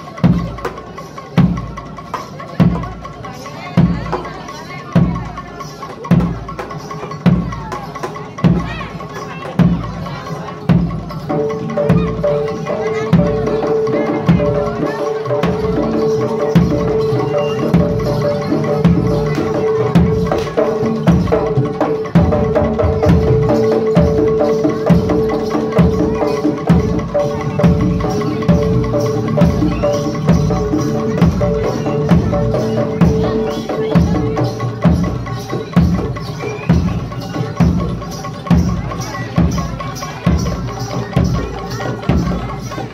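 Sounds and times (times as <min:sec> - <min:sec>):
drums beating steady rhythm: 0:00.0 - 0:42.9.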